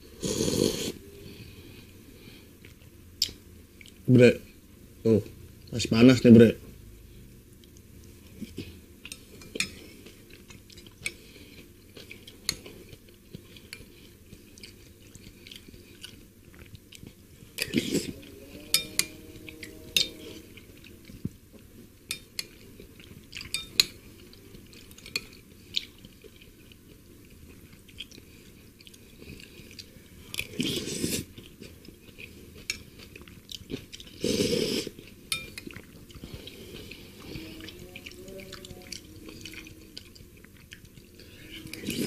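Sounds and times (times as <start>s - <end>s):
soft chewing: 0.2s - 5.9s, 6.5s - 42.0s.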